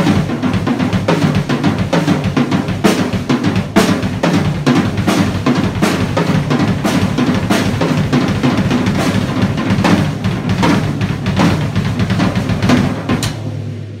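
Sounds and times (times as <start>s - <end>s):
drum kit playing: 0.0s - 14.0s
low drum tone ringing: 0.0s - 14.0s.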